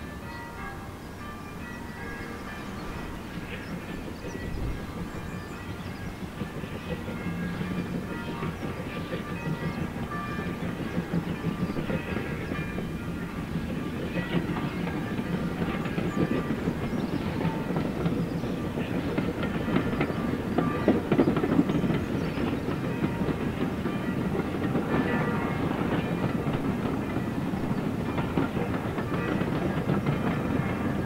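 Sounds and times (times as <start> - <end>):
train rumbling along track: 0.0 - 31.0
steam locomotive chuffing: 1.5 - 31.0.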